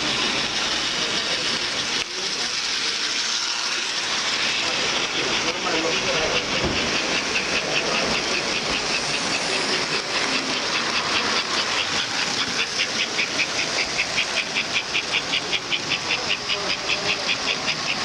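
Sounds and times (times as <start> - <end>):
crowd hubbub in a hall: 0.0 - 18.0
model steam locomotive chuffing: 0.0 - 18.0.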